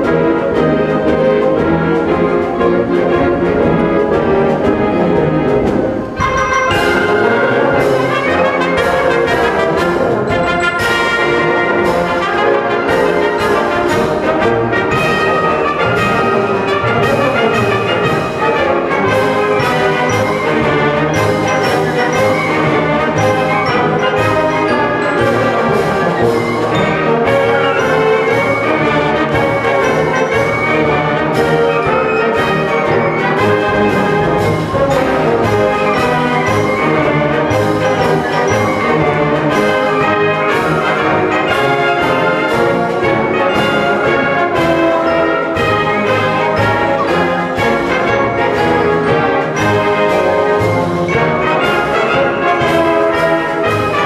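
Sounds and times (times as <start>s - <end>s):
concert band playing a march: 0.0s - 54.0s.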